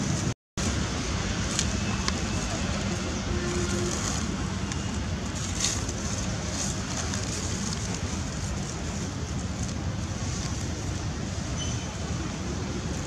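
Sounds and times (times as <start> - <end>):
low rumble with hiss: 0.0 - 13.0.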